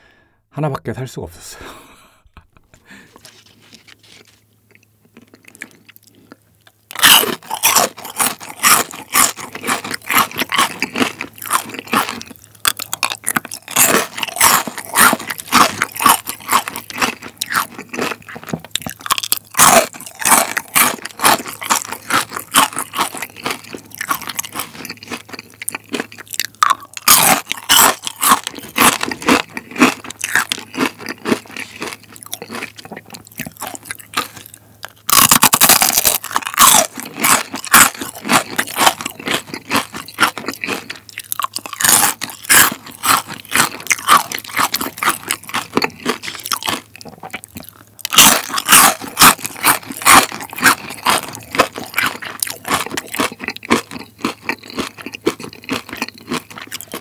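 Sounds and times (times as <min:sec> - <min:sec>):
crunching fried chicken skin: 0:03.2 - 0:57.0.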